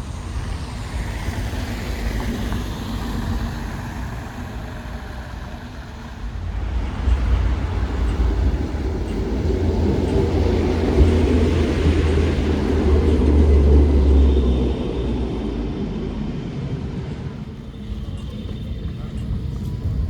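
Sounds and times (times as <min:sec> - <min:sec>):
tram wheels rumbling: 0:00.0 - 0:20.0.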